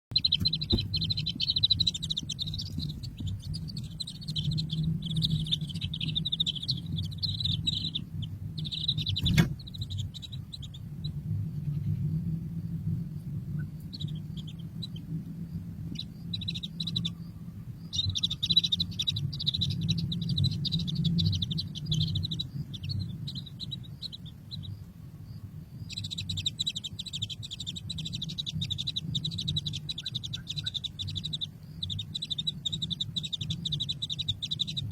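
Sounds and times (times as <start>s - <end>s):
steady low hum: 0.0s - 34.9s
baby birds chirping: 0.1s - 12.2s, 13.4s - 34.9s.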